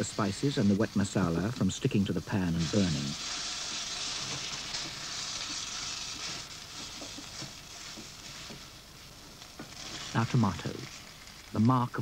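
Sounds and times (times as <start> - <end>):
wooden spoon stirring: 0.0 - 11.8
paste sizzling in a pan: 0.0 - 12.0.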